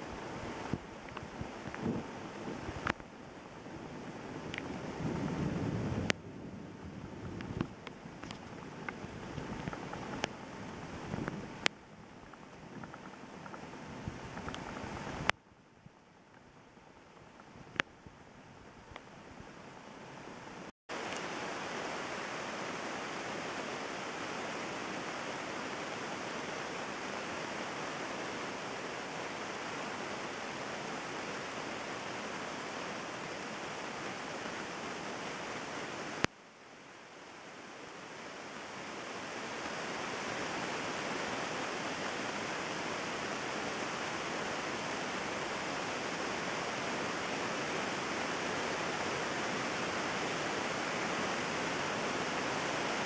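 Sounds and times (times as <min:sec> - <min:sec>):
heavy rain pouring: 0:00.0 - 0:15.4, 0:19.7 - 0:53.0.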